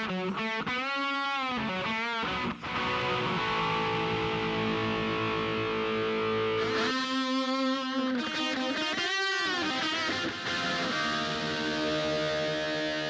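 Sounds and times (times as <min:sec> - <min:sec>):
electric guitar music: 0:00.0 - 0:13.0.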